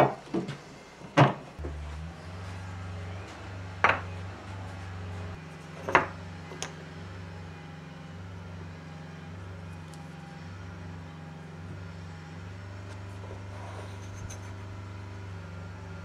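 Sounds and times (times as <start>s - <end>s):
low electric hum: 0.7s - 16.0s.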